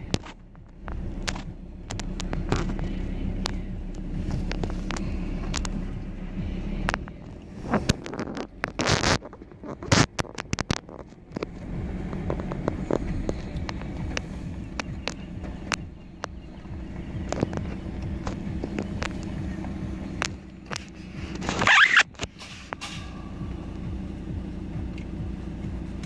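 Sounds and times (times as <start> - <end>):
sharp clicks and crackles: 0.0 - 6.2, 6.8 - 26.0
vehicle engine running: 0.0 - 26.0.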